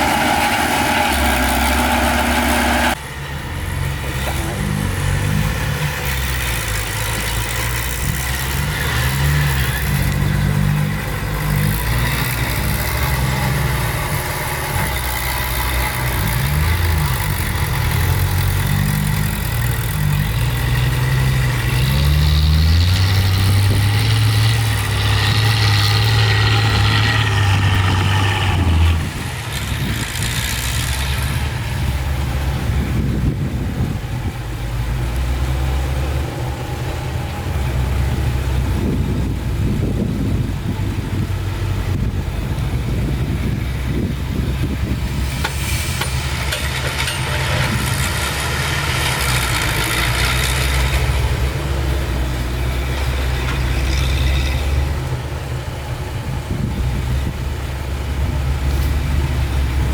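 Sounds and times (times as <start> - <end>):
heavy diesel engines working: 0.0 - 59.9.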